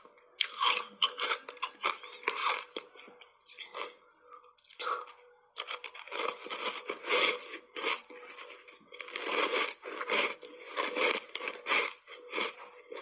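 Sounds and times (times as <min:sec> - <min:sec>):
ice crunching while chewed: 0:00.4 - 0:04.0, 0:04.6 - 0:13.0.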